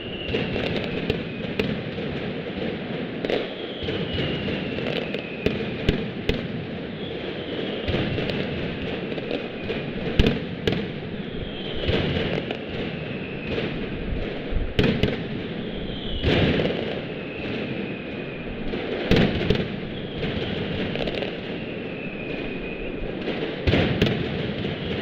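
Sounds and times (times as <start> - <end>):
firecrackers barrage: 0.0 - 25.0
loud firecracker bangs: 0.0 - 25.0
whistling fireworks: 0.0 - 25.0.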